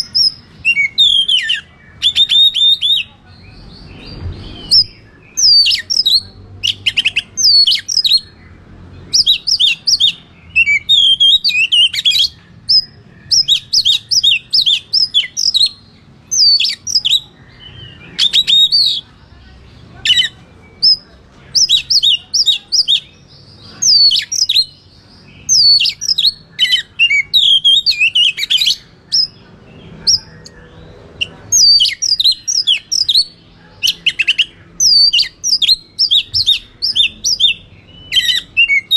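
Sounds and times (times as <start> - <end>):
bird singing whistled chattering song: 0.0 - 8.4, 9.1 - 19.1, 20.0 - 38.9.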